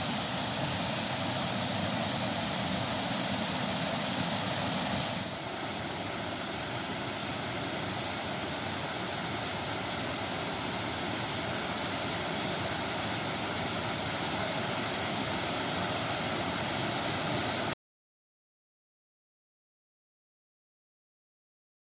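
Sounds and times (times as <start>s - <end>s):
water pouring and splashing: 0.0s - 17.8s.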